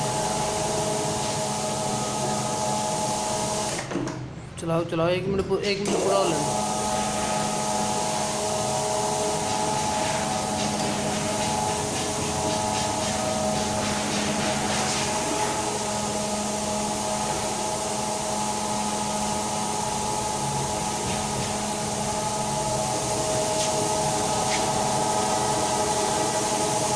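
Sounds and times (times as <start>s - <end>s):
vacuum cleaner running: 0.0s - 3.9s, 5.9s - 26.9s.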